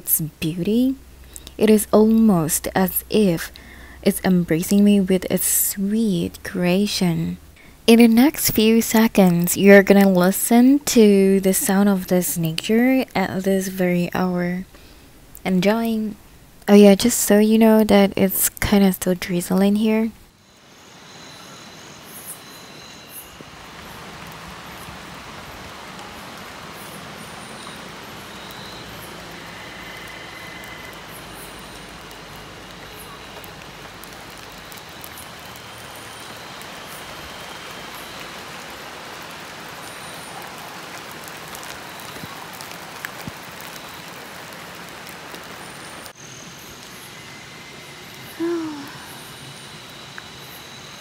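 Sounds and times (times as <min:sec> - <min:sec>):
light drizzle hissing: 0:00.0 - 0:13.1, 0:14.6 - 0:15.5, 0:23.1 - 0:50.6.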